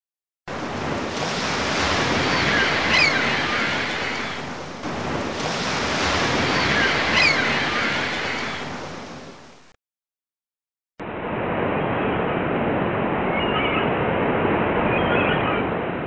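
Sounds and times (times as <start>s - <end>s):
ocean waves breaking: 0.5s - 9.7s, 11.1s - 16.0s.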